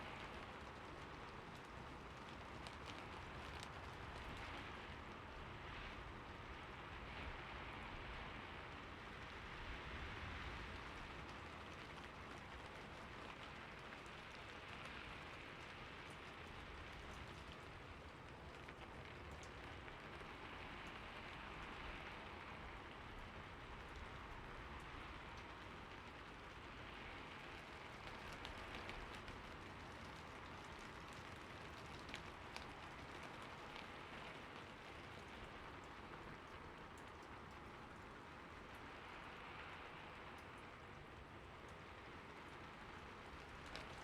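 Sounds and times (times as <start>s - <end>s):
rain pattering on leaves: 0.0s - 44.0s.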